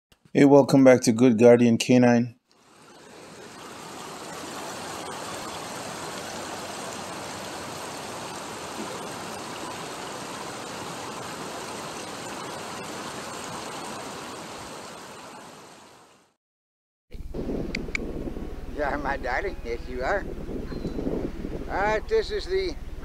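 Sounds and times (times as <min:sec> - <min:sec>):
steady rushing noise: 0:02.6 - 0:15.4, 0:17.2 - 0:23.0.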